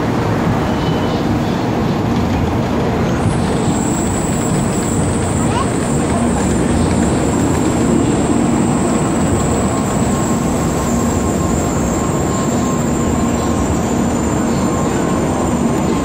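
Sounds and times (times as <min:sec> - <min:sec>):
train cars rushing past: 0:00.0 - 0:16.0.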